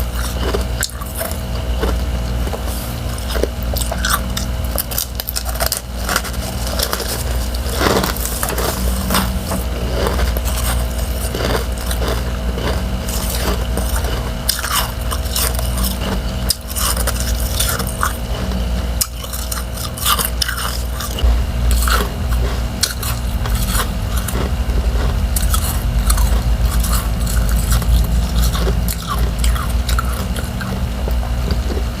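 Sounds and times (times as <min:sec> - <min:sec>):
chewing crunchy frost: 0:00.0 - 0:32.0
steady low hum: 0:00.0 - 0:32.0.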